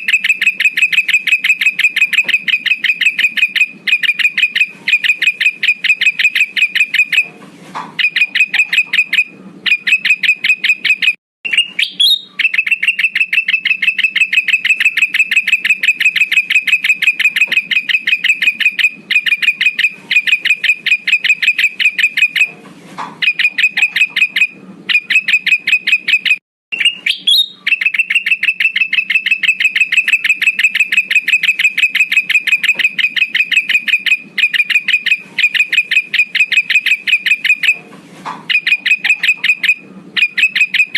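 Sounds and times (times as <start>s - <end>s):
bird chirping high: 0.0s - 7.3s, 8.0s - 22.6s, 23.2s - 37.8s, 38.5s - 40.9s.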